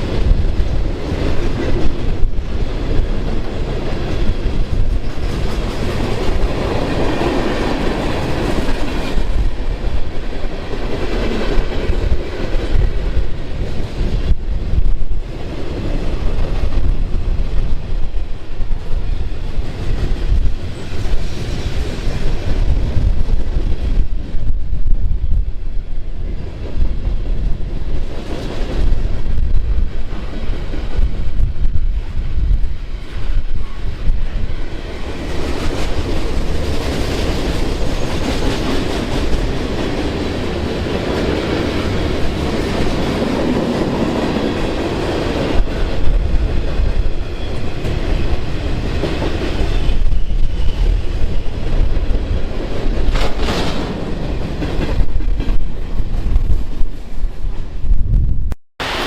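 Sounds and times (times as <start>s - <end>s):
train wheels on rails: 0.0s - 58.2s, 58.8s - 59.0s.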